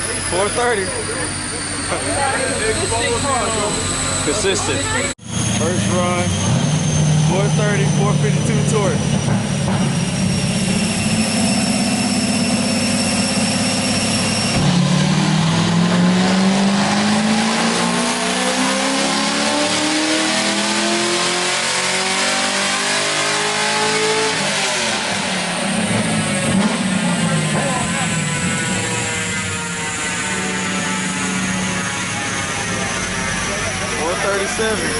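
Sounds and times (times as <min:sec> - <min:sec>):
car engine revving under load: 0:00.0 - 0:34.9.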